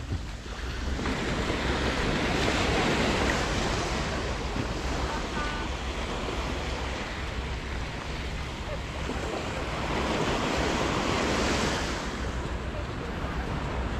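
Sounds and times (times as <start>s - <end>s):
small waves breaking on sand: 0.0s - 13.9s
wind rumbling on microphone: 0.0s - 13.9s.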